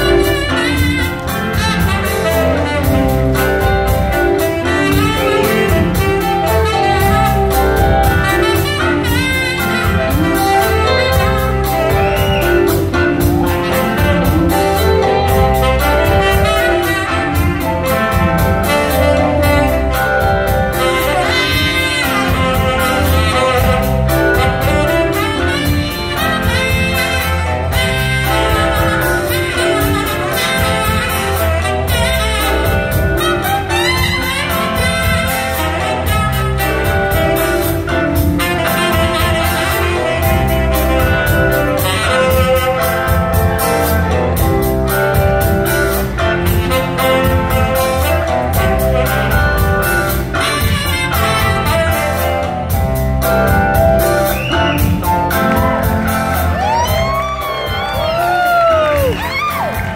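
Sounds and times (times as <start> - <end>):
rock band playing: 0.0 - 59.9
saxophone lead line: 0.0 - 59.9.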